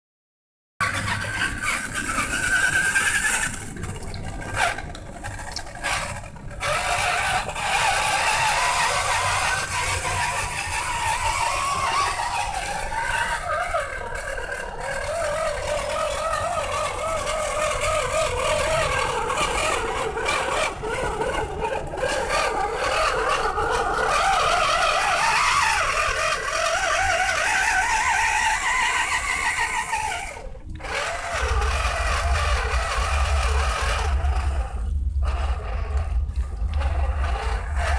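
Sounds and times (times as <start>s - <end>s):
electric motor and gears whining: 0.8s - 37.9s.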